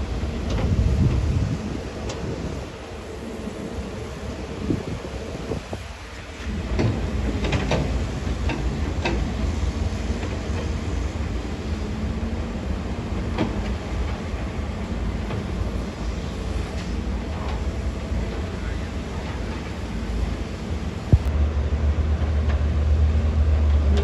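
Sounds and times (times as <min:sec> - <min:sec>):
diesel engine rumble: 0:00.0 - 0:24.0.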